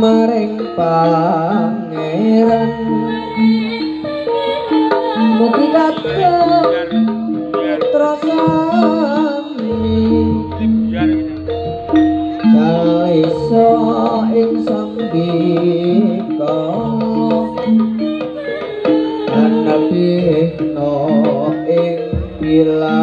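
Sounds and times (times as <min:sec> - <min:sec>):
metal-keyed instruments melody: 0:00.0 - 0:23.0
wavering melody line: 0:00.0 - 0:23.0.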